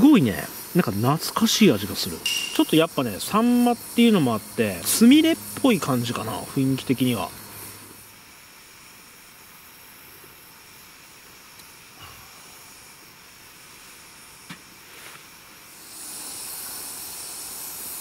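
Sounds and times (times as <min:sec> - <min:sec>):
faint steady hiss: 0:00.0 - 0:18.0
fish sizzling on grill: 0:00.0 - 0:18.0.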